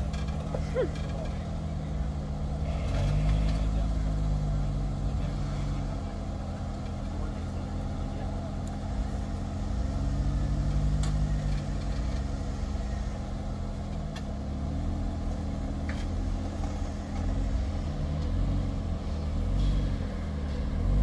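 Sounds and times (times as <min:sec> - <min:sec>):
car engine at low revs: 0:00.0 - 0:21.0.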